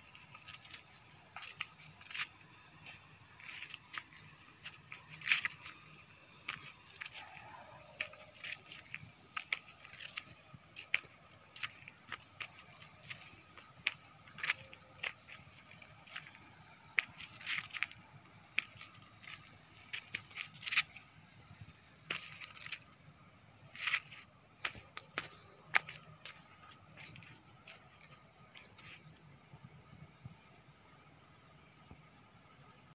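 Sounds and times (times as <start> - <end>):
footsteps on paved road: 0.0 - 23.0, 23.6 - 29.4
faint steady hiss: 0.0 - 32.9.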